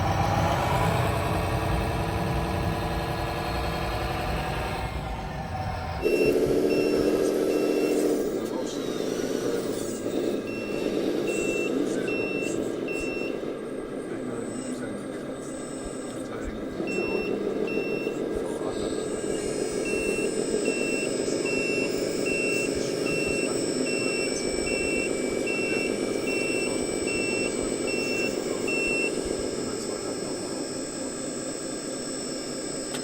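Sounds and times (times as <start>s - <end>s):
electronic reversing alarm beeping: 5.9s - 33.0s.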